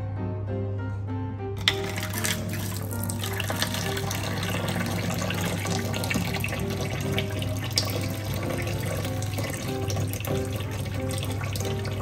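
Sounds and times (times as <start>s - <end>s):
tap water running into sink: 1.6s - 12.0s.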